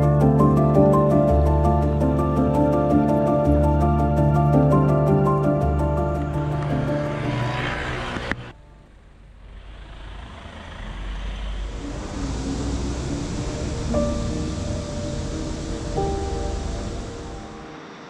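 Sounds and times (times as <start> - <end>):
background music: 0.0 - 9.4, 11.8 - 18.0
distant traffic rumble: 0.0 - 18.0.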